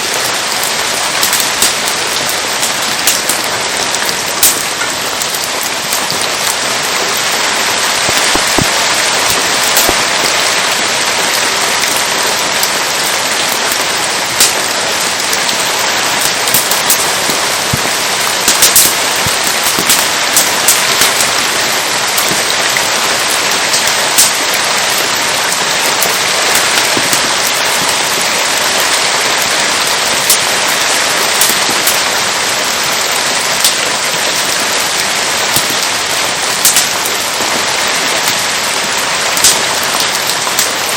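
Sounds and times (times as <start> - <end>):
campfire crackling and popping: 0.0 - 40.9
steady rain falling: 0.0 - 40.9.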